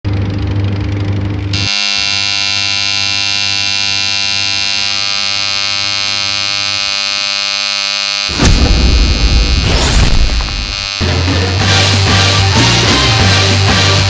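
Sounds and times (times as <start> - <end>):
buzzer-like alarm tone: 1.5 - 14.0.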